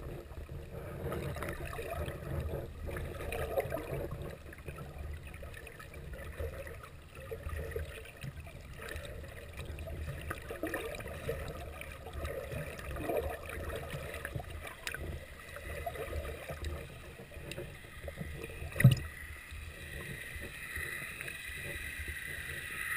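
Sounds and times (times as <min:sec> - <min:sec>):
muffled underwater water sloshing: 0:00.0 - 0:22.9.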